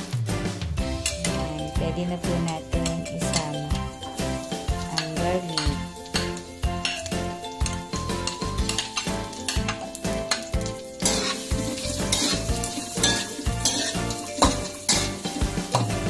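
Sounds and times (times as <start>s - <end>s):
garlic sizzling in fat: 0.8s - 16.0s
metal turner scraping a wok: 2.3s - 16.0s.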